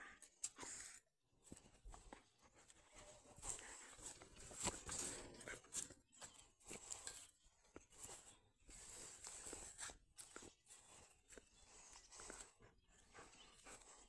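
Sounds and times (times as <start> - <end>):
rustling close to microphone: 1.5 - 14.0.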